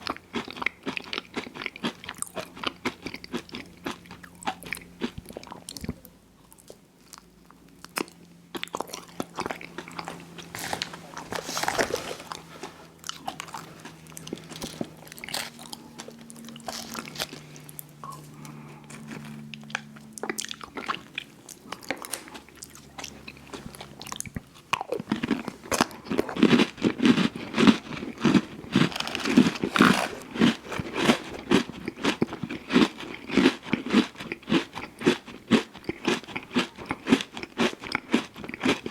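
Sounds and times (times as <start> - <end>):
ice cream bites and chewing: 0.0 - 38.9.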